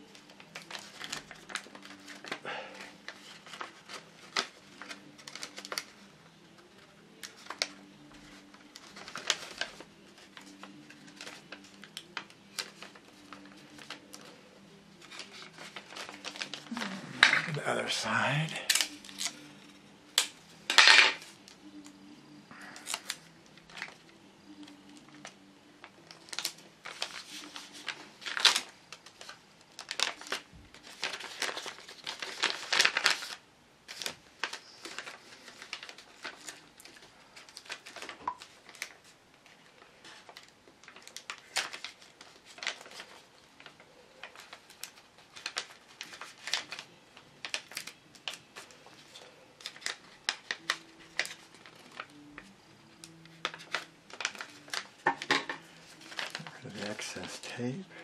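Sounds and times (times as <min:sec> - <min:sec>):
paper crinkling and rustling: 0:00.0 - 0:58.0.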